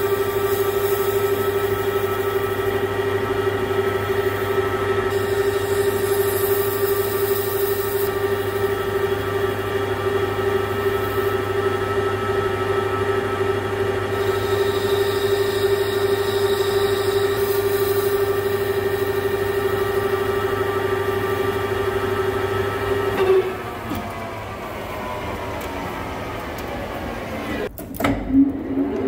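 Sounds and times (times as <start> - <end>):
lathe tool cutting metal: 0.0 - 27.7
lathe whine and hum: 0.0 - 29.0.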